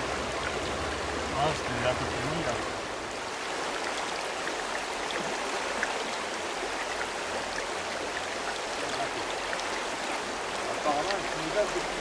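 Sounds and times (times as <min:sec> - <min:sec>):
river flowing over stones: 0:00.0 - 0:12.0
small water splashes: 0:00.0 - 0:12.0.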